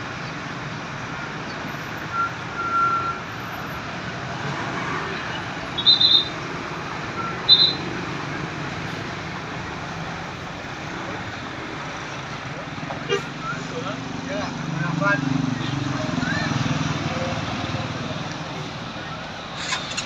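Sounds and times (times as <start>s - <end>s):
roadside traffic noise: 0.0s - 20.0s.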